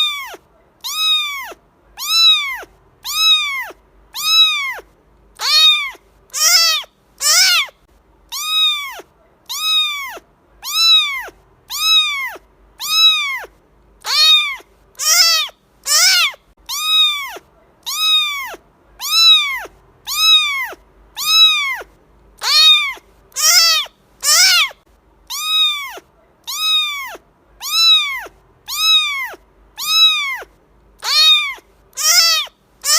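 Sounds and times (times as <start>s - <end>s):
cat meowing: 0.0s - 7.7s, 8.3s - 32.9s.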